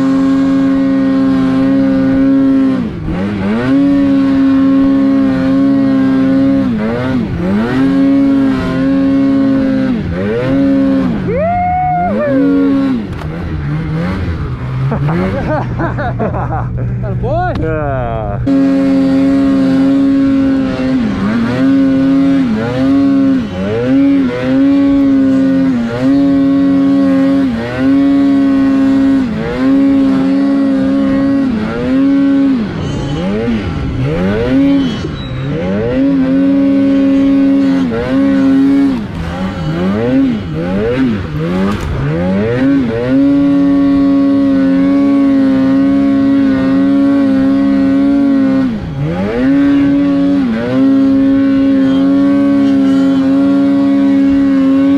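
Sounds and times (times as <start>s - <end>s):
snowmobile engine revving: 0.0s - 54.9s.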